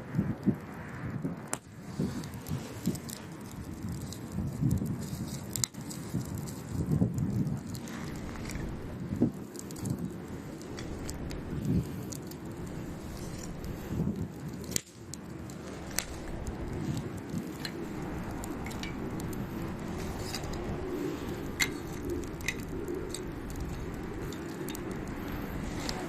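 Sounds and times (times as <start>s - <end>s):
campfire low rustle: 0.0s - 26.0s
campfire pops and snaps: 0.0s - 26.0s.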